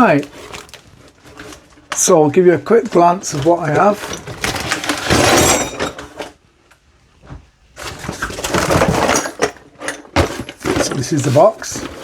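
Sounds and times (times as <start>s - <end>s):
packaging crackling and rustling: 0.0s - 6.4s, 7.8s - 12.0s.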